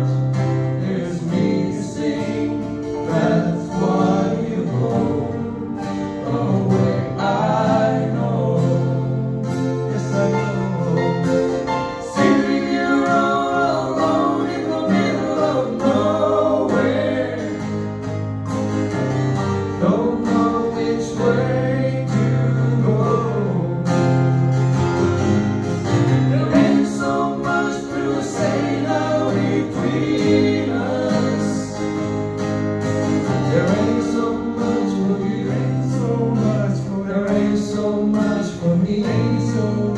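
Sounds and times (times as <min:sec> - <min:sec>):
group of people singing: 0:00.0 - 0:18.3, 0:19.6 - 0:24.6, 0:26.0 - 0:32.4, 0:33.2 - 0:39.9
acoustic guitars strumming: 0:00.0 - 0:39.9
bass and keyboard: 0:00.0 - 0:39.9.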